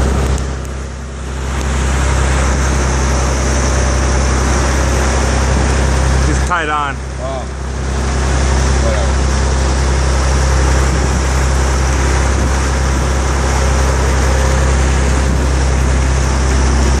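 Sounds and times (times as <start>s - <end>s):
boat engine droning: 0.0s - 17.0s
wake rushing and churning: 0.0s - 17.0s.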